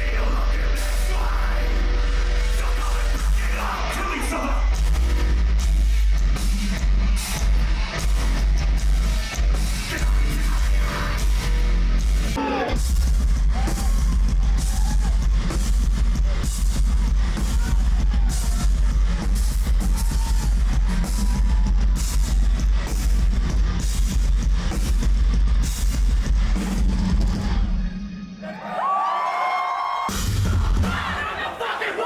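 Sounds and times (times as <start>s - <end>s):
heavy metal music: 0.0s - 28.8s, 30.1s - 32.0s.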